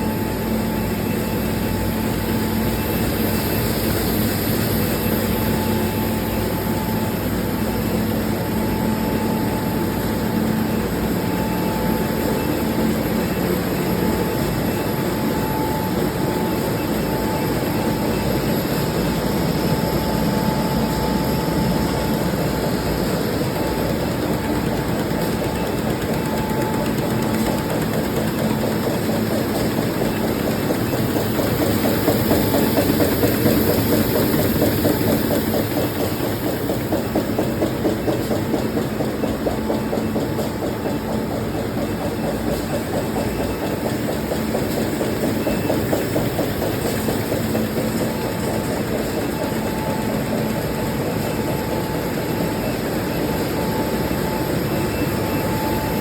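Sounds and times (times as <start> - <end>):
machine hum: 0.0 - 56.0
machines clattering: 0.0 - 56.0.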